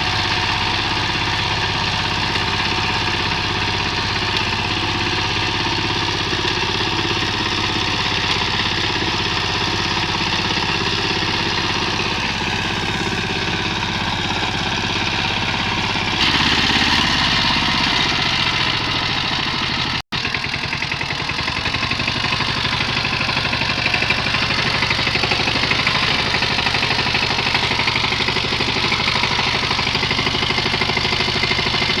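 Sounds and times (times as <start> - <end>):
diesel tiller engine running: 0.0 - 32.0.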